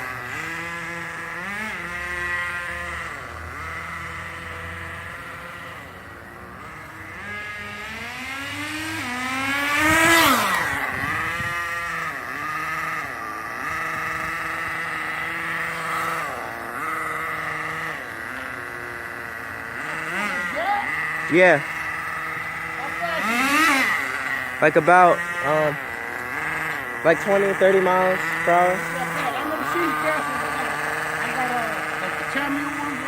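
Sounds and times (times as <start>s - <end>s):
small nitro engine revving: 0.0s - 33.0s.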